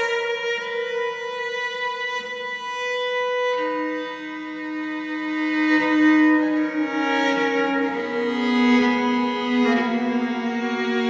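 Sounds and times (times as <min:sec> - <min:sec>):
bowed cello long notes: 0:00.0 - 0:11.0.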